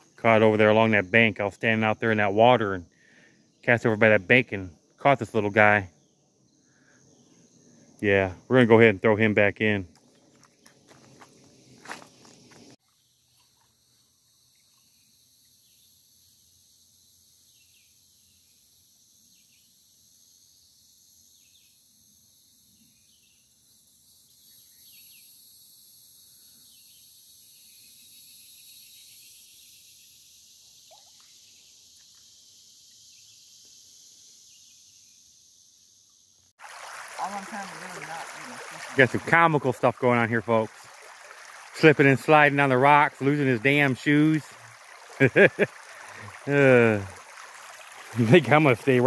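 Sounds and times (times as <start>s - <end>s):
high-pitched insect chorus: 0.0s - 49.0s.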